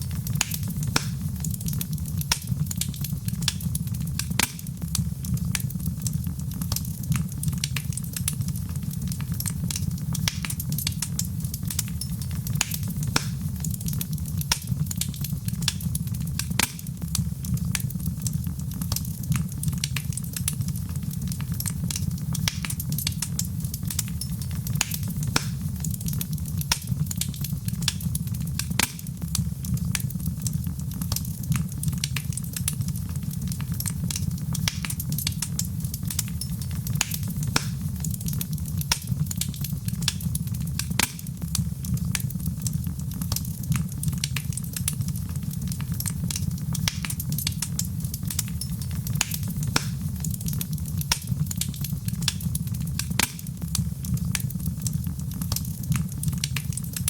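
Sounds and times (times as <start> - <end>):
wood fire burning: 0.0 - 57.0.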